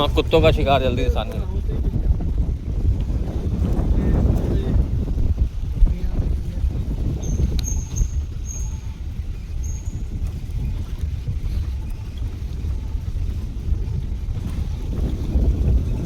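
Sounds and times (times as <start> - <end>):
vehicle engine and tyres rumbling: 0.0 - 16.0
wind buffeting microphone: 0.0 - 16.0.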